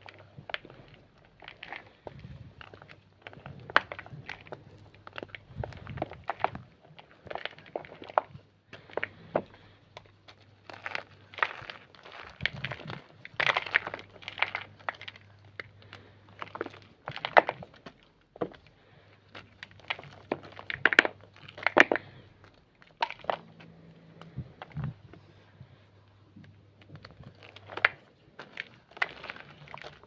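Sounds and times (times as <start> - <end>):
chalk crunching and cracking: 0.0 - 30.0.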